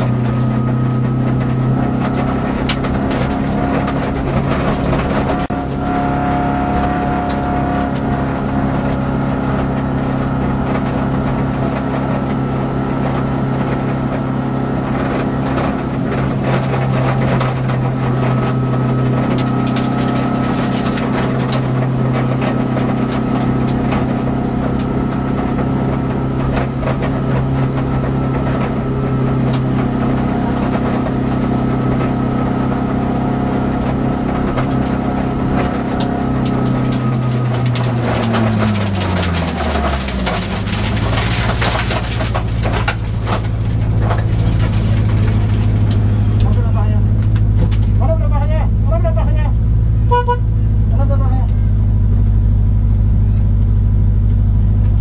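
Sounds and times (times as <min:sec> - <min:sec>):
rally car engine running: 0:00.0 - 0:55.0
road and tyre noise: 0:00.0 - 0:55.0.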